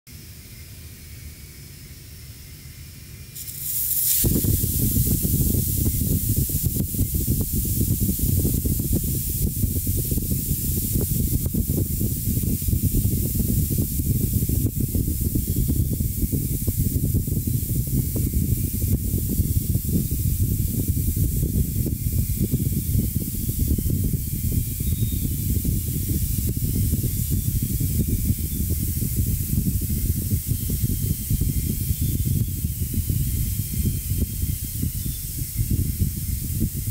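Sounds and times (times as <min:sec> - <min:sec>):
air hissing out of pool toy: 0:03.4 - 0:36.9.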